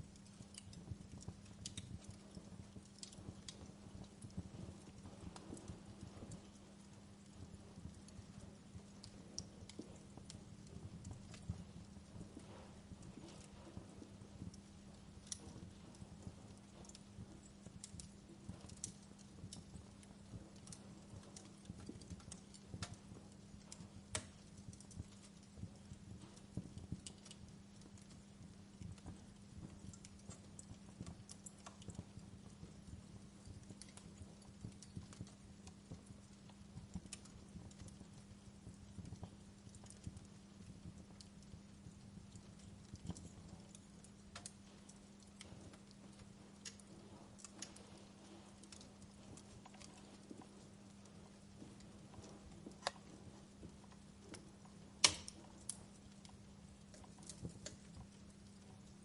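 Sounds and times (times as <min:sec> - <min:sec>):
faint low hum: 0:00.0 - 0:59.0
wood fire crackling: 0:00.0 - 0:59.0.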